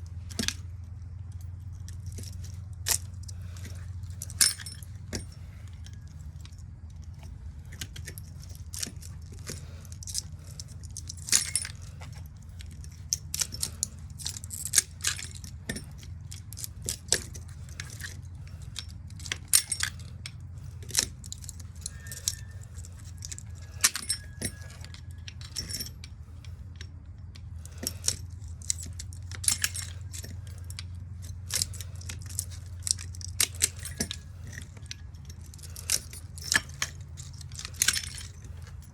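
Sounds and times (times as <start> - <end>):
steady low hum: 0.0 - 38.9
metallic clinks of hand tools: 1.2 - 38.9.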